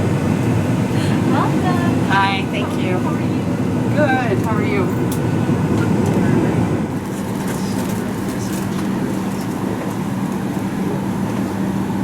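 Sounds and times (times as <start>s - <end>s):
air-conditioning hum: 0.0s - 12.0s.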